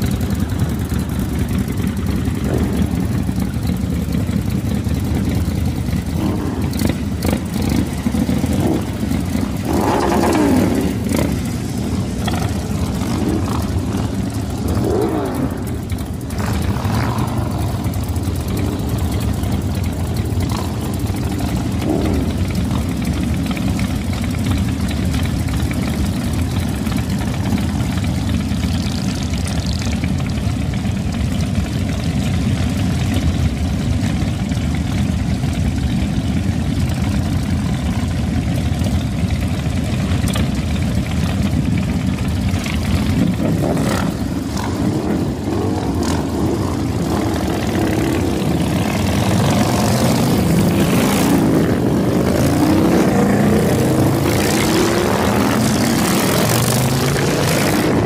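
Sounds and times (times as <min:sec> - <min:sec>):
motorcycles revving and passing: 0:00.0 - 0:58.0
motorcycles rumbling: 0:00.0 - 0:58.0.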